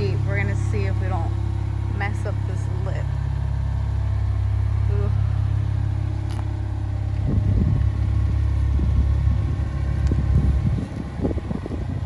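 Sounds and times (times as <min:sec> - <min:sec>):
car engine idling: 0:00.0 - 0:12.0
uneven low rumbling: 0:00.0 - 0:12.0.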